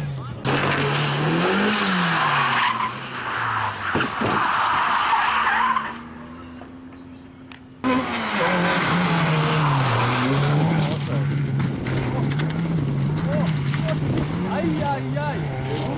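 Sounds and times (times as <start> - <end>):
rally car engine: 0.0 - 15.9
rally car engine revving: 0.0 - 15.9
tyres skidding on wet tarmac: 0.4 - 6.2, 7.8 - 15.9.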